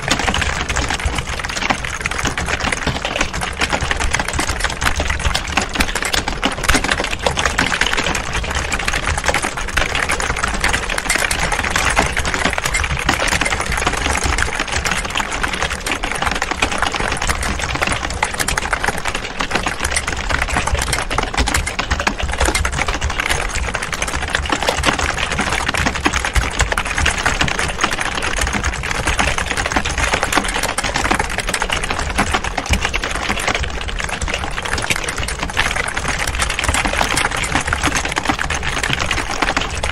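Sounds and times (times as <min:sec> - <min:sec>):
keyboard typing clatter: 0:00.0 - 0:39.9.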